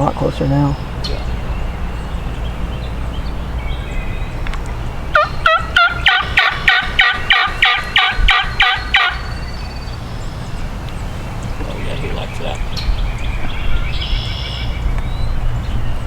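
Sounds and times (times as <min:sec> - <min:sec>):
wild turkey calling: 0:00.0 - 0:15.1
wind rumble on microphone: 0:00.0 - 0:16.0.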